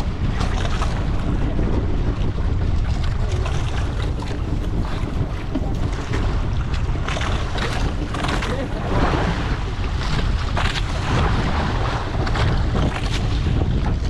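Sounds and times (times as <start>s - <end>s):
rush of water: 0.0s - 14.0s
wind buffeting microphone: 0.0s - 14.0s.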